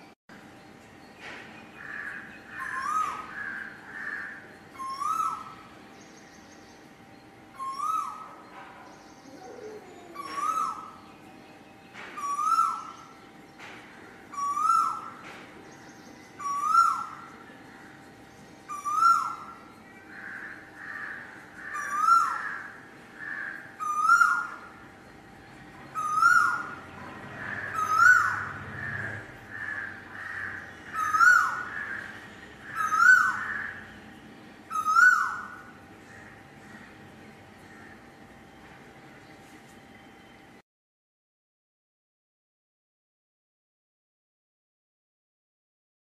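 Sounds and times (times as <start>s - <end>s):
faint steady hum: 0.0s - 40.6s
softer higher bird calls: 1.2s - 40.5s.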